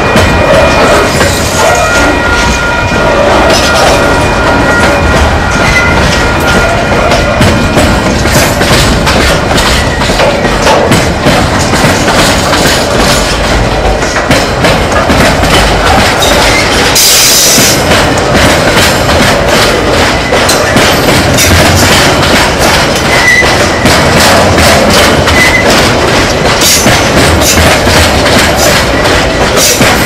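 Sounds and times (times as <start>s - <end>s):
train wheels clacking on rails: 0.0s - 30.0s.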